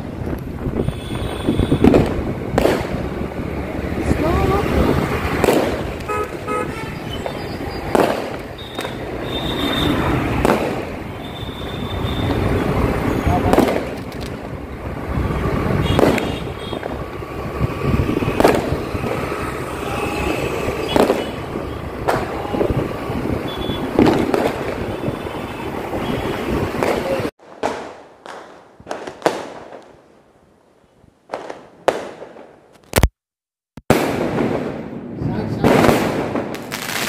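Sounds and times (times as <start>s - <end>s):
fireworks cracking and popping: 0.0s - 30.2s, 31.3s - 33.2s, 33.8s - 37.0s
loud firework bangs: 0.6s - 3.5s, 4.4s - 30.0s, 31.3s - 32.6s, 33.9s - 37.0s.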